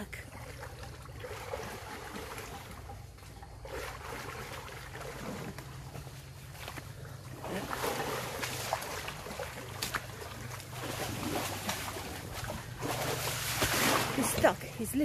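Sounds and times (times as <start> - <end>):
elephant feet sloshing in mud: 0.0 - 15.0
low steady rumble: 0.0 - 15.0.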